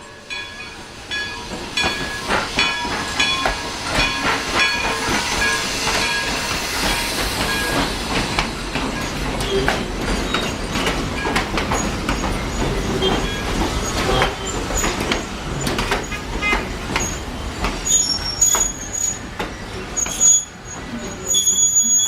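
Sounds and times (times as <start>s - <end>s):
train wheels clicking and knocking: 0.0s - 21.2s
train wheel squeals: 0.0s - 22.0s.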